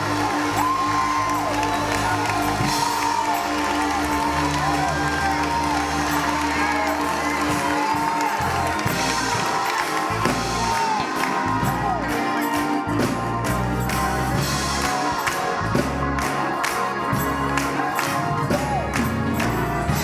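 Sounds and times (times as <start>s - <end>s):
congregation calling out: 0.0s - 20.0s
live church band music: 0.0s - 20.0s.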